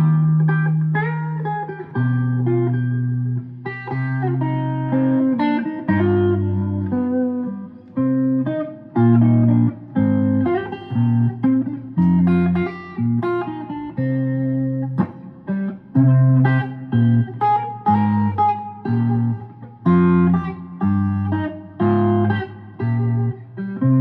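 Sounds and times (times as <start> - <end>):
bluesy guitar picking and strumming: 0.0 - 24.0.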